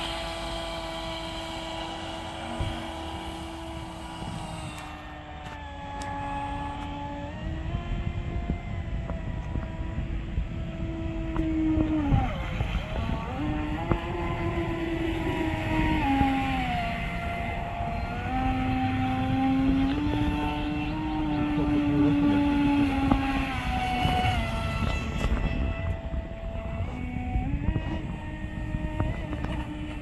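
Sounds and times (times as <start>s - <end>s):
model boat motor whining: 0.0s - 30.0s.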